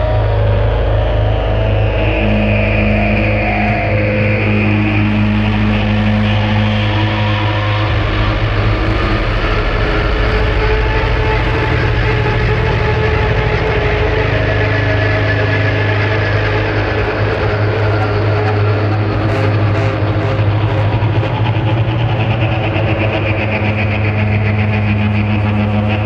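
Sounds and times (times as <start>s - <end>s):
droning rock music: 0.0s - 26.0s.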